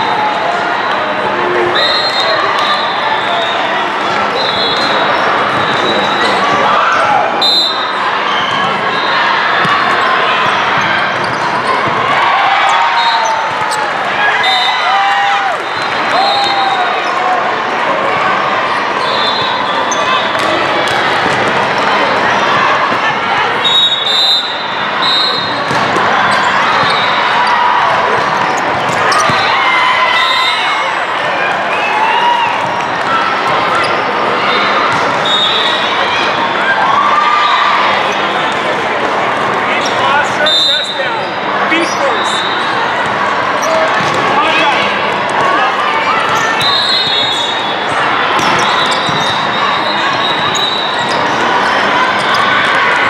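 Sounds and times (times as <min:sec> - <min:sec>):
echoing crowd chatter: 0:00.0 - 0:53.0.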